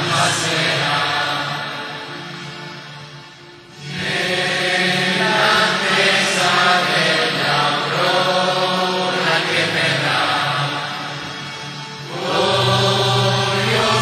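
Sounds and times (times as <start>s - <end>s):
congregation singing a hymn: 0.0s - 3.0s, 3.7s - 14.0s.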